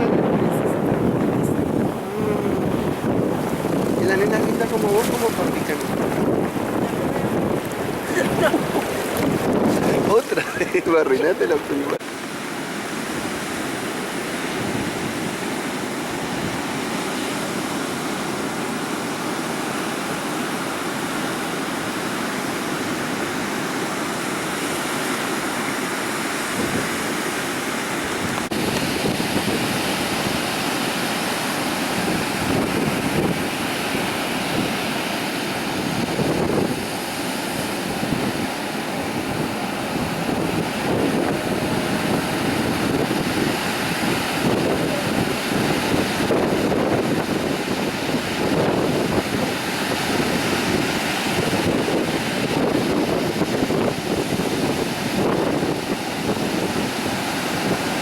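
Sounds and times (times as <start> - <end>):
wind buffeting microphone: 0.0 - 12.2, 13.0 - 17.7, 26.2 - 58.0
ocean surf washing on beach: 0.0 - 58.0.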